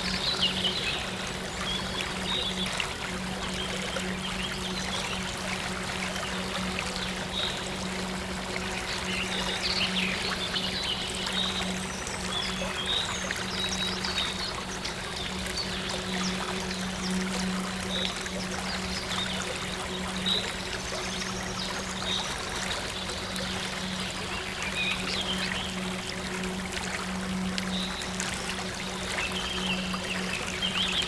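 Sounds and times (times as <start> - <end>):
trickling water: 0.0 - 31.0.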